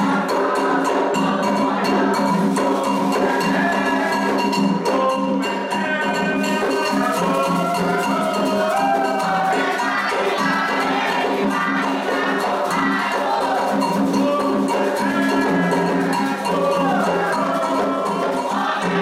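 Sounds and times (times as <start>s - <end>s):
group singing a chant: 0.0s - 19.0s
hand drums: 0.0s - 19.0s
metal bell rhythm: 0.0s - 19.0s.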